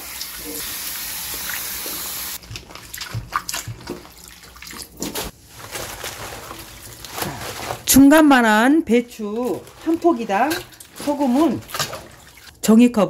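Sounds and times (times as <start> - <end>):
water splashing and sloshing: 0.0 - 12.6.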